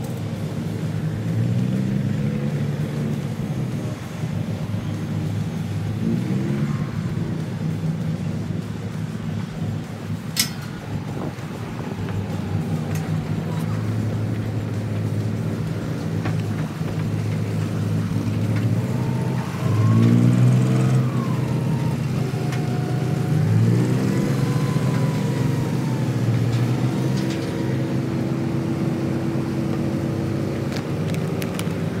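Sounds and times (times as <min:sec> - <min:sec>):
boat diesel engine throbbing: 0:00.0 - 0:32.0.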